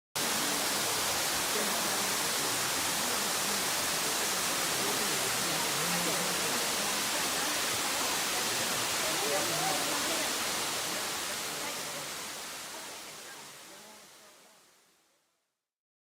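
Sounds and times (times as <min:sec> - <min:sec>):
waterfall rushing: 0:00.2 - 0:14.4
faint voices: 0:00.2 - 0:14.6.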